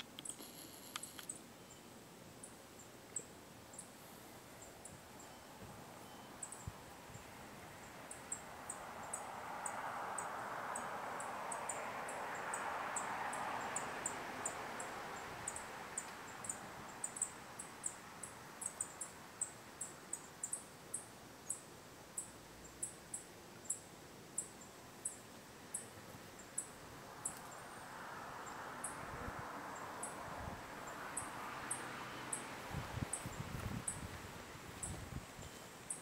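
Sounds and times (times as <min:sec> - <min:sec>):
insect chirps: 0:00.0 - 0:36.0.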